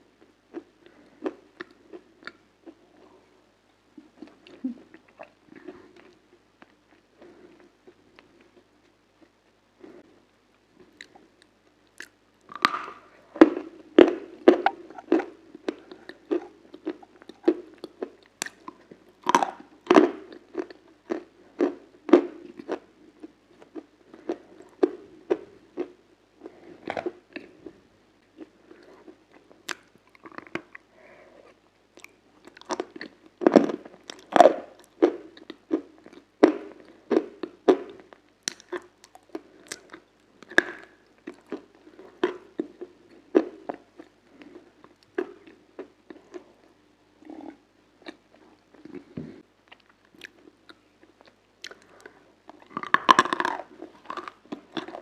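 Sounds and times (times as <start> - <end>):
crunching and chewing crisp food: 0.2 - 3.4, 4.0 - 55.0.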